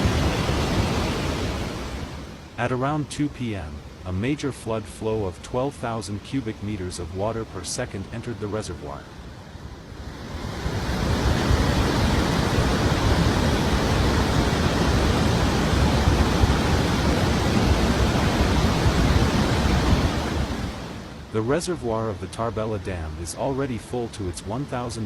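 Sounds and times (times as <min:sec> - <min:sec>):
water rushing from spillways: 0:00.0 - 0:25.0.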